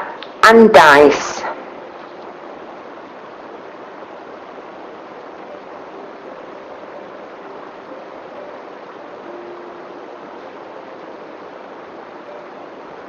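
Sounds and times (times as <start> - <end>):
faint hum: 0.0 - 13.0
steady background hiss: 0.0 - 13.0.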